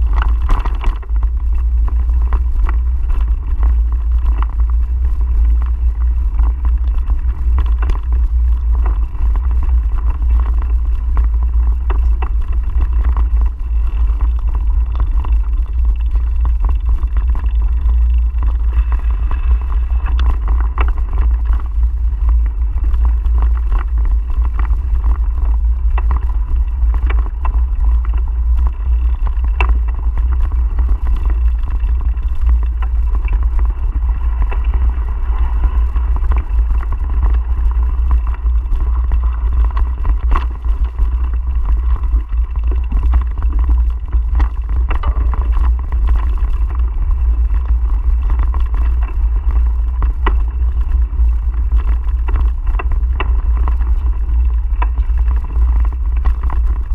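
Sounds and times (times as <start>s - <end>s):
bike knocks and rattles: 0.0s - 56.9s
wind buffeting microphone: 0.0s - 56.9s.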